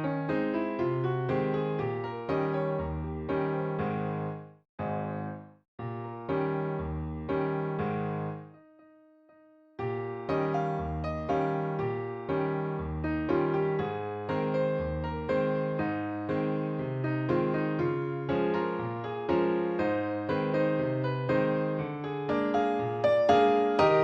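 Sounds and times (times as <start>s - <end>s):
piano-like keyboard chords: 0.0s - 24.0s.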